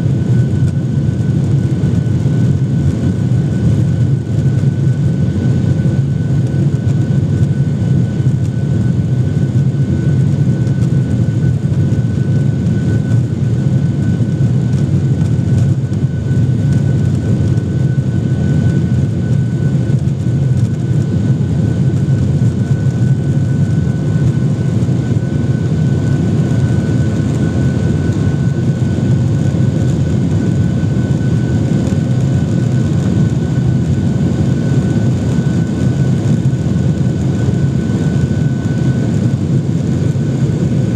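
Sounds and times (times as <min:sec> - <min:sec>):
jet engine cabin rumble: 0:00.0 - 0:40.9
thin steady whine: 0:00.0 - 0:40.9.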